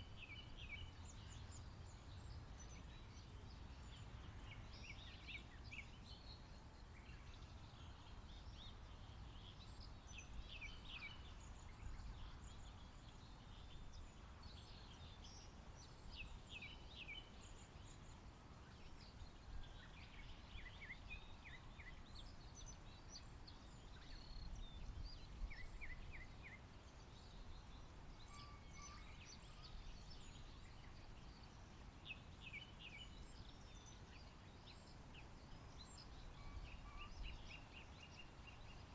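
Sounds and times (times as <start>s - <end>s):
wild birds singing: 0.0s - 38.9s.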